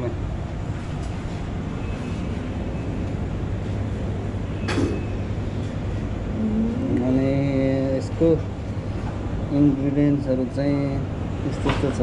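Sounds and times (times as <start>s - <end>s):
refrigerator and ventilation hum: 0.0s - 12.0s.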